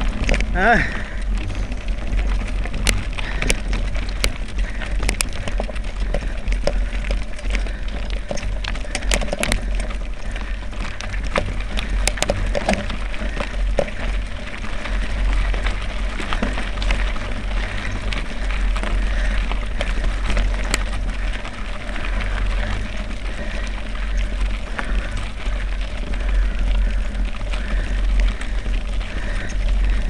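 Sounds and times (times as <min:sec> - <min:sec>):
tyres rattling on stones: 0:00.0 - 0:30.0.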